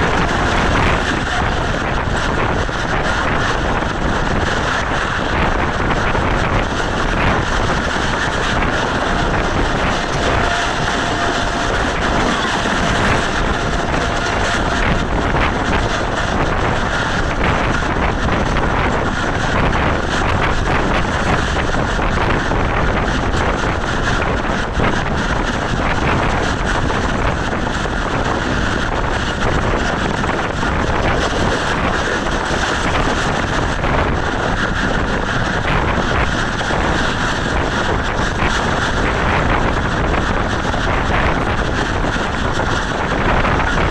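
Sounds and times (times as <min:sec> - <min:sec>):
train rumbling at speed: 0:00.0 - 0:43.9
wind buffeting microphone: 0:00.0 - 0:43.9.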